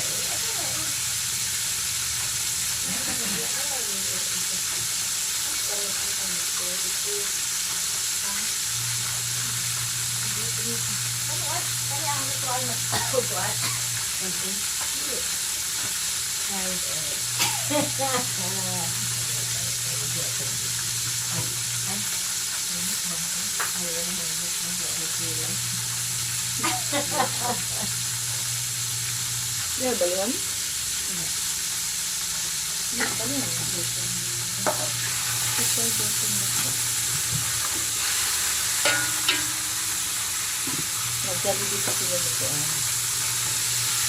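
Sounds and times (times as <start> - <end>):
chicken frying in oil: 0.0 - 44.0.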